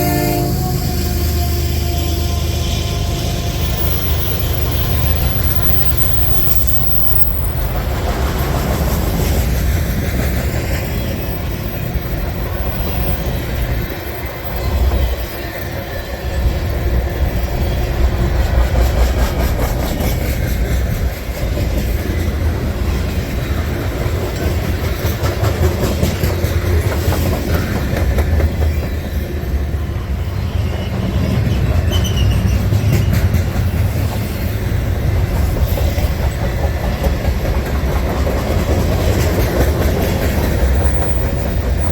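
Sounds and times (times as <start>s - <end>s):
freight train rumbling past: 0.0s - 41.9s
wheels clacking over rails: 3.6s - 29.2s, 30.6s - 41.9s.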